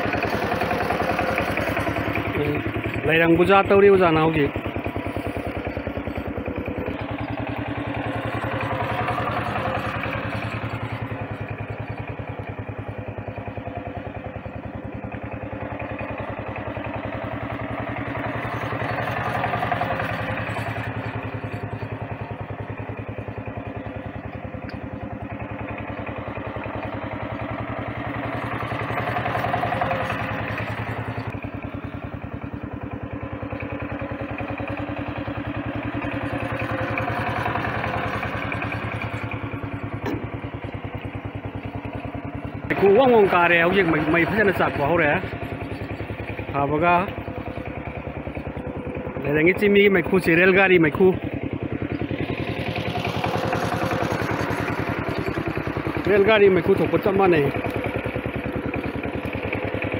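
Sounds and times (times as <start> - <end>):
small engine puttering: 0.0 - 59.9.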